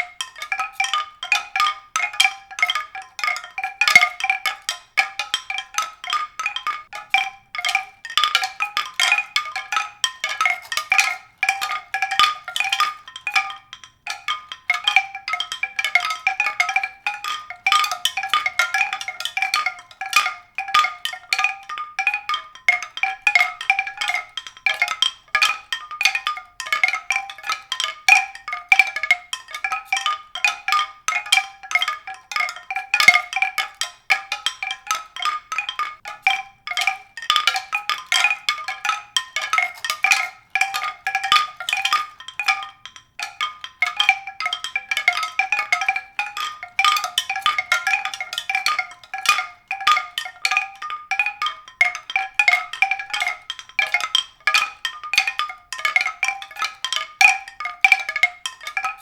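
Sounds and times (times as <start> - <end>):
tuned percussion notes: 0.0 - 59.0.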